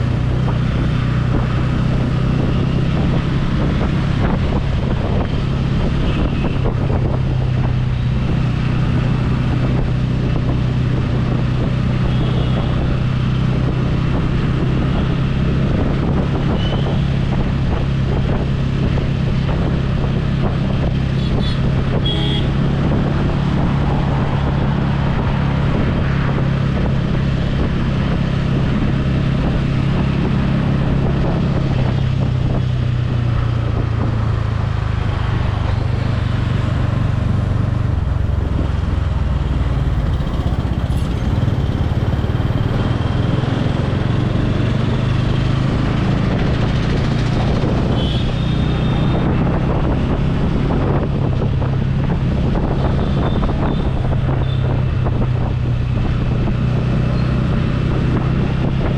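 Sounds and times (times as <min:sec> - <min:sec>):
motorcycle engine running: 0:00.0 - 0:58.9
wind rushing over microphone: 0:00.0 - 0:58.9.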